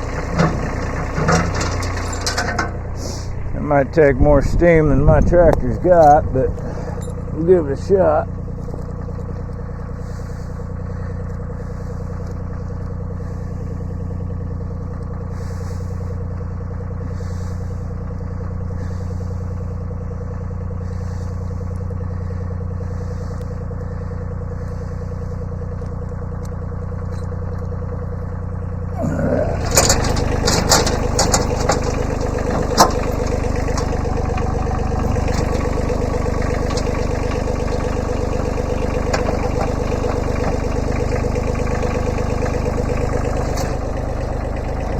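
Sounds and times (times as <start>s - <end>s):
diesel tractor engine running: 0.0s - 44.9s.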